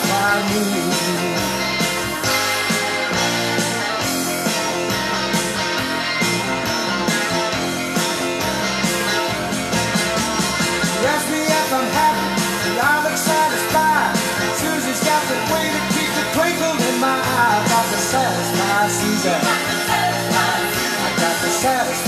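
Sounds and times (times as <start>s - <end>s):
blues-rock record playing: 0.0s - 22.0s.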